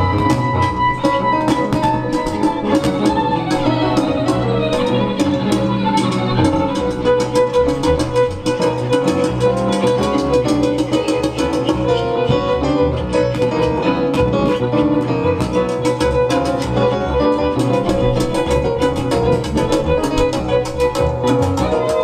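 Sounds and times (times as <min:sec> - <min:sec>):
bowed string tones: 0:00.0 - 0:22.0.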